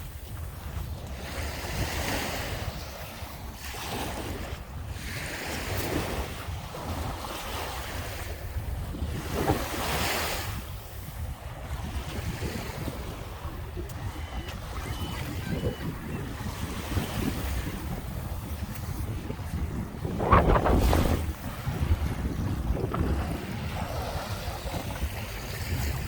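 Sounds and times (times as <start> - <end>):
waves breaking on beach: 0.0 - 26.0
wind rumbling on microphone: 0.0 - 26.0.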